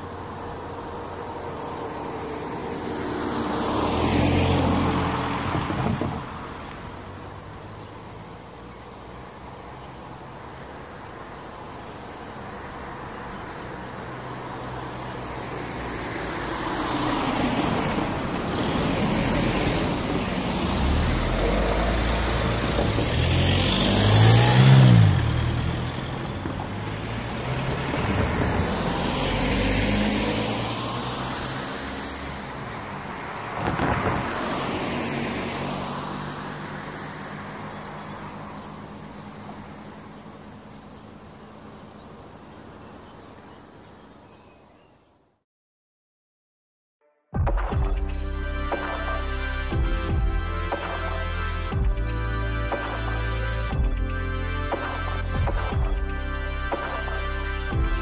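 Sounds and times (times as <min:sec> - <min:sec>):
vehicles driving past: 0:00.0 - 0:44.8, 0:47.8 - 0:58.0.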